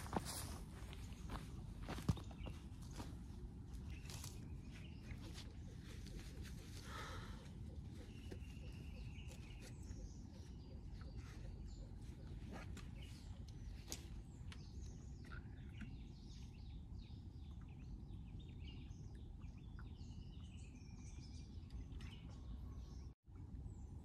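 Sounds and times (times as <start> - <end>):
wild birds chirping: 0.0 - 24.0.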